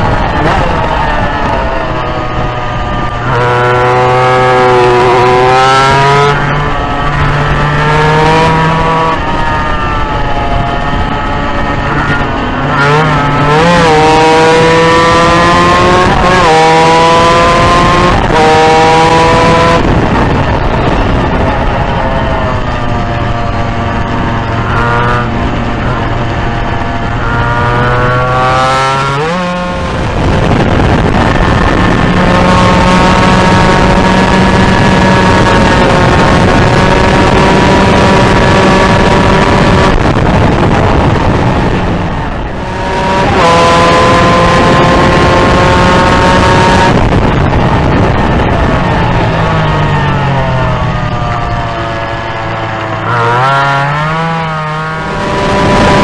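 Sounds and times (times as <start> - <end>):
two-stroke motorcycle engine revving: 0.0 - 56.0
wind rush: 0.0 - 56.0.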